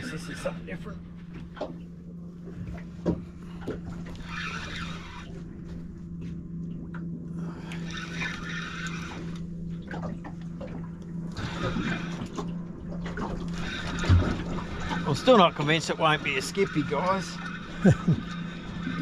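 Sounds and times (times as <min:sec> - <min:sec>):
steady low hum: 0:00.0 - 0:19.0
water lapping against boat hull: 0:00.0 - 0:19.0.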